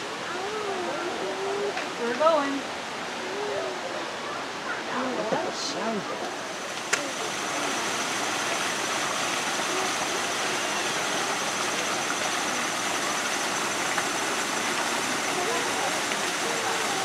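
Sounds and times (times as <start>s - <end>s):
waterfall rushing into a pool: 0.0s - 17.0s.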